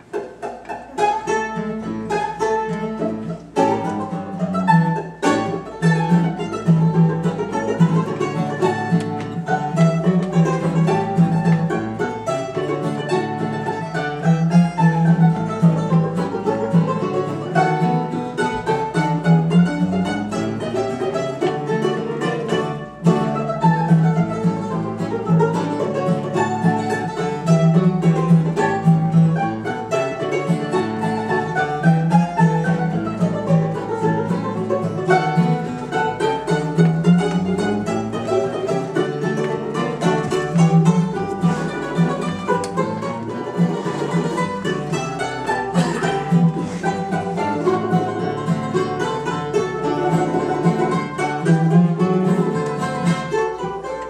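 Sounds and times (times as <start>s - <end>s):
acoustic guitar rhythm: 0.0s - 54.0s
mandolin-banjo melody: 0.0s - 54.0s
second mandolin: 0.0s - 54.0s.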